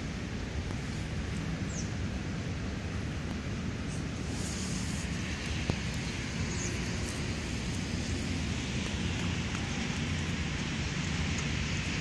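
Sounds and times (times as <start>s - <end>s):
wind buffeting microphone: 0.6s - 12.0s.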